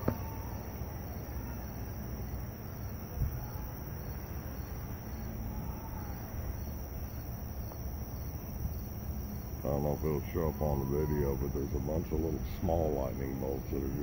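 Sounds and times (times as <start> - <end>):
crickets trilling: 0.0 - 14.0
low steady rumble: 0.0 - 14.0.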